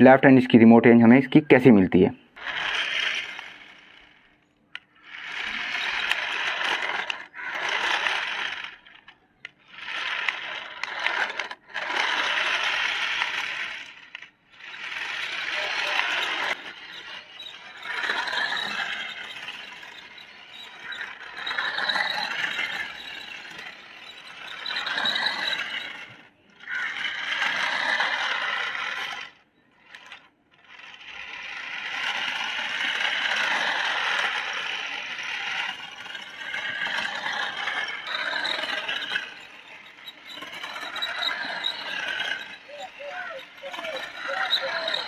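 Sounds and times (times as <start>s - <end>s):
toy car electric motor whirring: 2.3s - 45.0s
plastic wheels scraping concrete: 2.4s - 45.0s.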